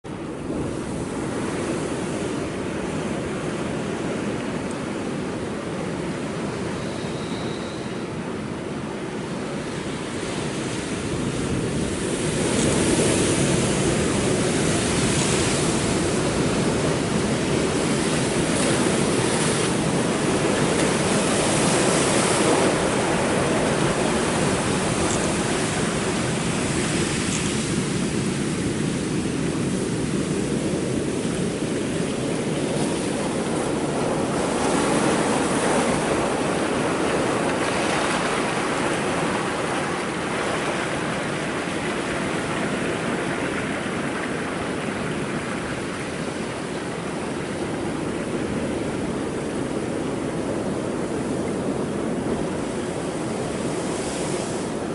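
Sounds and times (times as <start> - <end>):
wind on microphone: 0.0 - 54.9
ocean waves crashing on rocks: 8.0 - 54.9.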